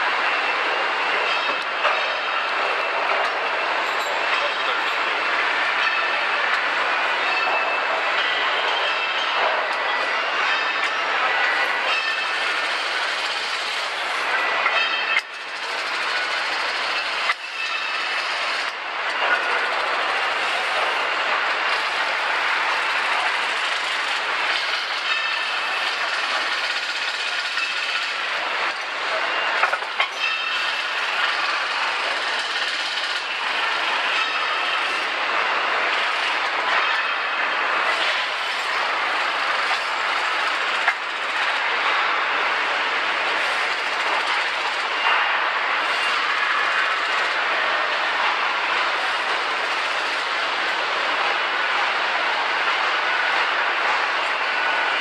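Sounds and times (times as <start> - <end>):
machinery and air noise: 0.0 - 55.0.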